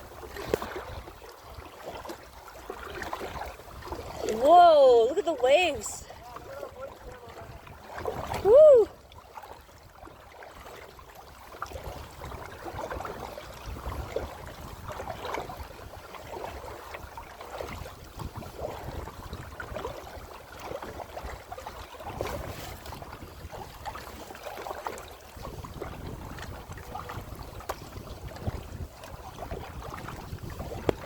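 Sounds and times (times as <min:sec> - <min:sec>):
wind rumble on microphone: 0:00.0 - 0:05.2, 0:06.0 - 0:31.0
water splashing against kayak hull: 0:00.0 - 0:31.0.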